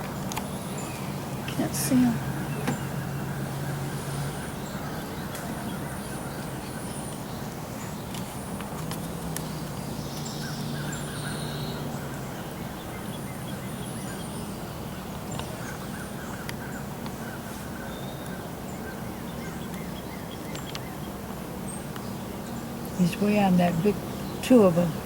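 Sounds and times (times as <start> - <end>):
wild birds chirping and trilling: 0.0 - 25.0.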